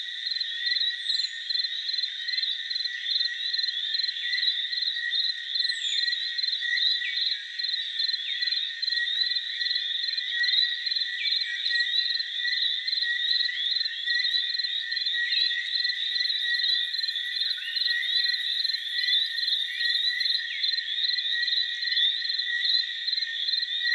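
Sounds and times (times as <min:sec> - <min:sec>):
frogs and insects calling: 0:00.0 - 0:23.9.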